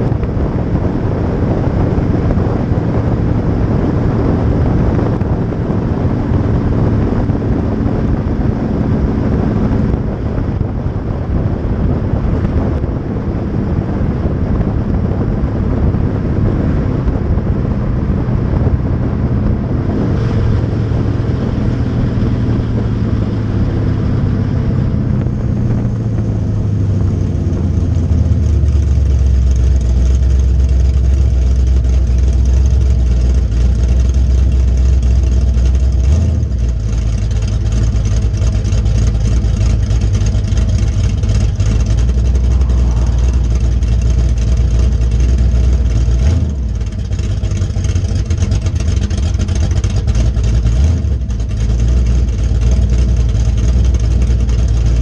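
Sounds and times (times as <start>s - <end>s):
car engine: 0.0s - 55.0s
road and wind noise: 0.0s - 55.0s.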